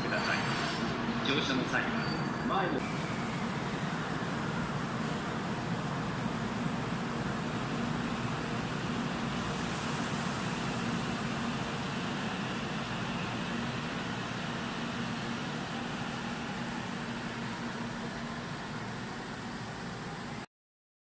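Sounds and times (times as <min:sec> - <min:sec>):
train running past: 0:00.0 - 0:20.4.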